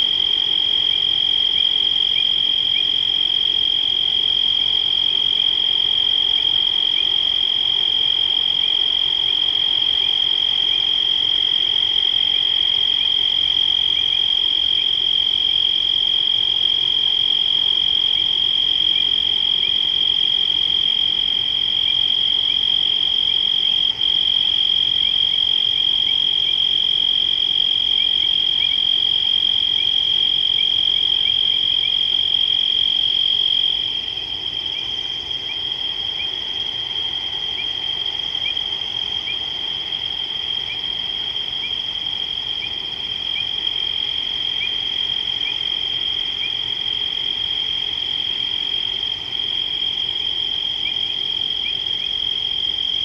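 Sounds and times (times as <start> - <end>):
frogs and insects trilling: 0.0 - 53.0.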